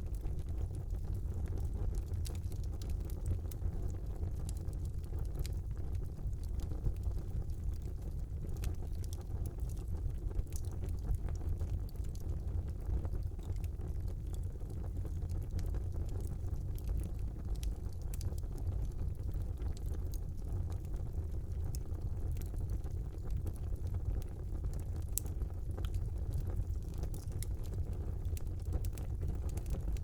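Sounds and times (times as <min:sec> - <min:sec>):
fire crackling and popping: 0:00.0 - 0:30.0
fireplace flames rumbling: 0:00.0 - 0:30.0.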